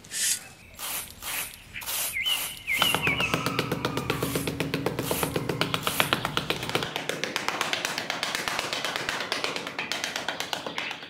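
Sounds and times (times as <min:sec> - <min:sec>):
trowel tapping sand: 0:00.0 - 0:11.0.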